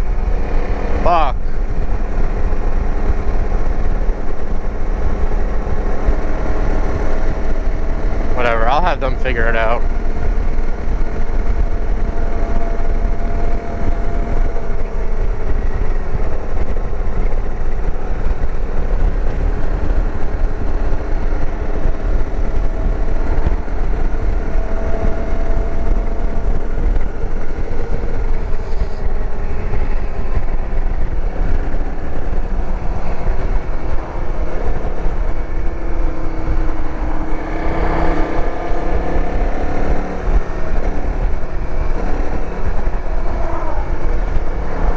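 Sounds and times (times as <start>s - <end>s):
dirt bike engine running: 0.0s - 44.9s
wind on microphone: 0.0s - 44.9s.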